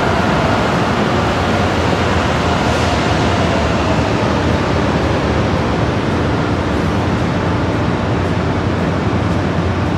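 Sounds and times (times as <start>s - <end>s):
train rumbling: 0.0s - 9.9s.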